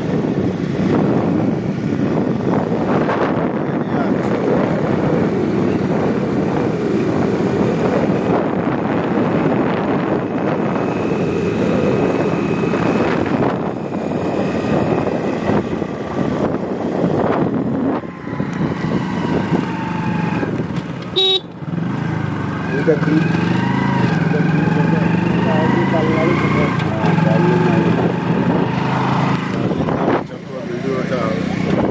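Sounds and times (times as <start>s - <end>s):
motorcycle engine running: 0.0s - 31.9s
wind rushing over microphone: 0.0s - 31.9s.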